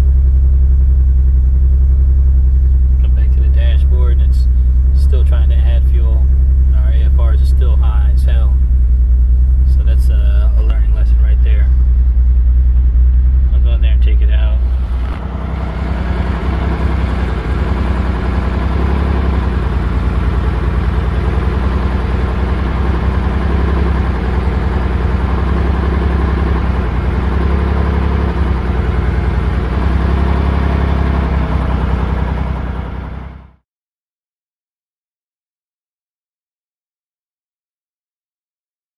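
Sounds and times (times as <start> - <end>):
car engine idling: 0.0 - 33.6.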